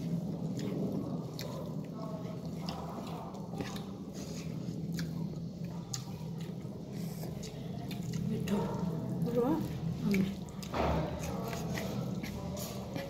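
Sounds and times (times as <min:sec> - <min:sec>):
chewing: 0:00.0 - 0:13.0
fingers squelching food: 0:00.0 - 0:13.0.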